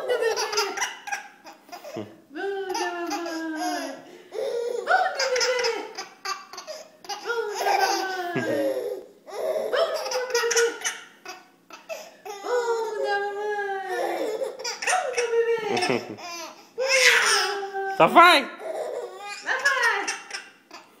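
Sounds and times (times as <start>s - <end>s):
baby laughing: 0.0s - 17.9s, 18.6s - 20.9s.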